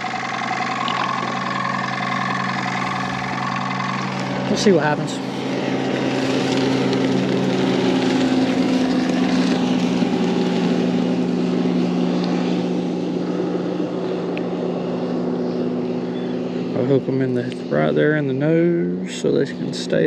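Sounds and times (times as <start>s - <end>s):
motor humming: 0.0s - 16.9s.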